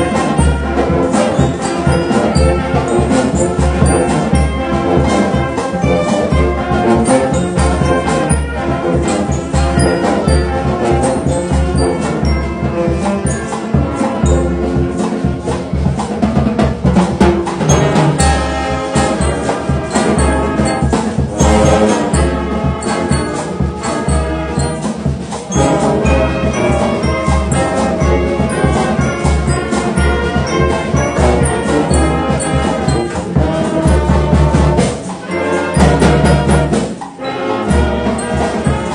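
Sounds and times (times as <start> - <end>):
low drum beat: 0.0 - 37.0
brass band playing: 0.0 - 38.9.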